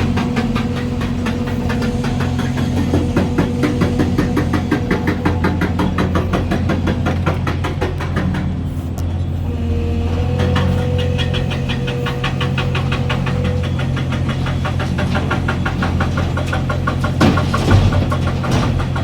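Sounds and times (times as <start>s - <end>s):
diesel engine clattering: 0.0s - 19.0s.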